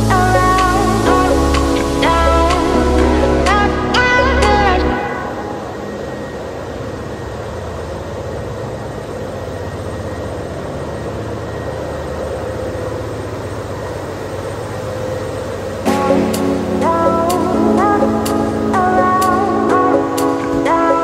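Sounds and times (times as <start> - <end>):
engine room machinery din: 0.0 - 21.0
low hum: 0.0 - 21.0.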